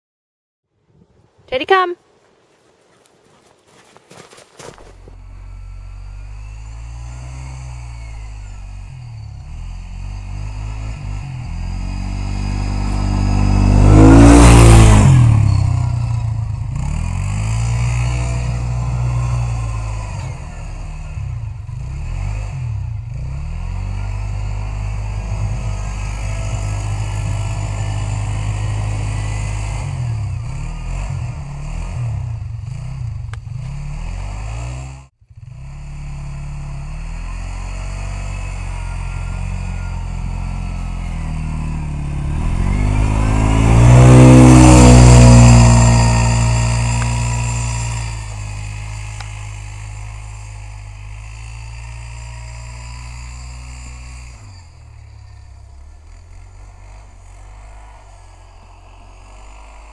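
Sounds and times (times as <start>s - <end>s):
atv engine running: 2.9s - 59.9s.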